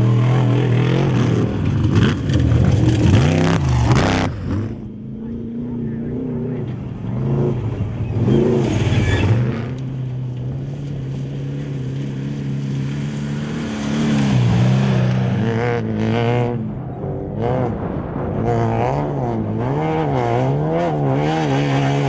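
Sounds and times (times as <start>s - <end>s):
race vehicle engines: 0.0s - 22.0s.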